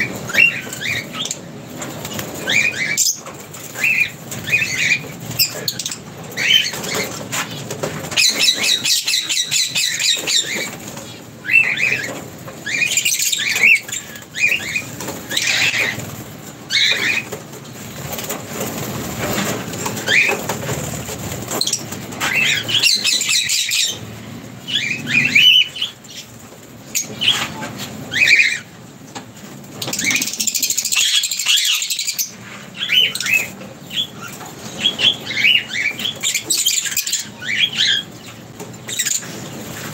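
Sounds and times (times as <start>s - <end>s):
lovebirds chirping and squeaking: 0.0s - 39.9s
wings fluttering: 0.0s - 39.9s.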